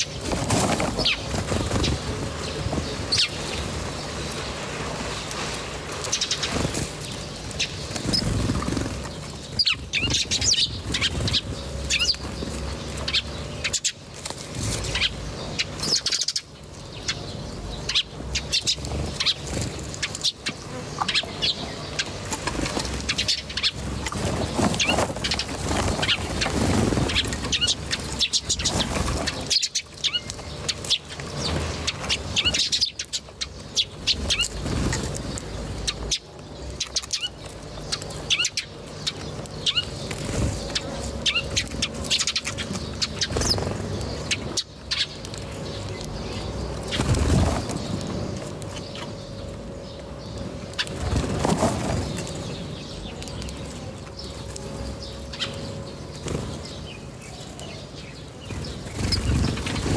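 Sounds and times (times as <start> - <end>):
wing flapping and rustling: 0.0 - 16.2, 18.2 - 59.9
small birds chirping: 0.0 - 59.9.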